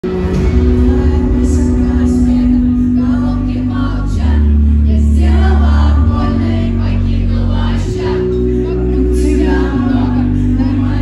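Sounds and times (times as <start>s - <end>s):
pop backing track with deep bass: 0.0s - 11.0s
woman singing into microphone: 0.1s - 11.0s.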